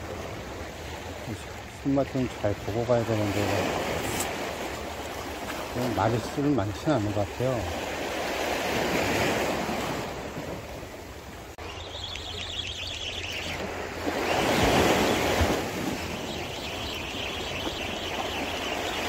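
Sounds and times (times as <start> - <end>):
small waves breaking on rocks: 0.0 - 19.0.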